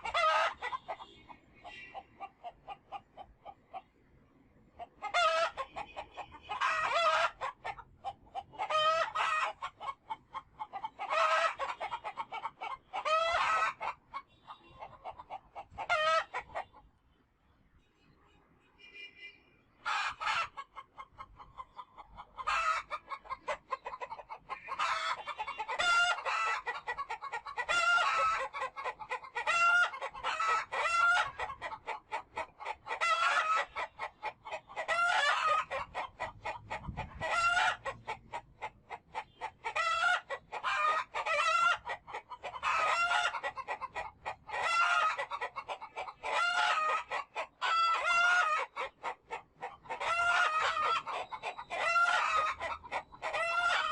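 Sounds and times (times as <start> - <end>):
chickens clucking and squawking: 0.0 - 17.1, 19.7 - 53.9.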